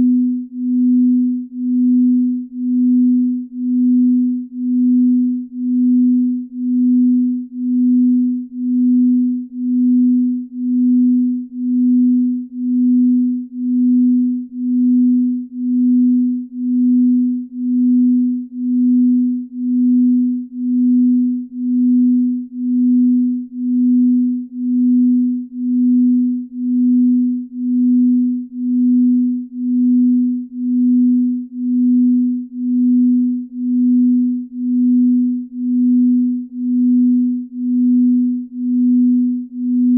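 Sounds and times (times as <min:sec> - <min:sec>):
low pulsing pure tone: 0:00.0 - 0:39.9.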